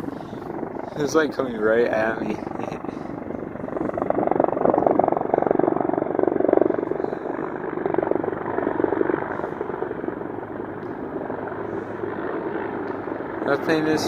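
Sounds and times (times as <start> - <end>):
helicopter rotor chopping: 0.0 - 14.0.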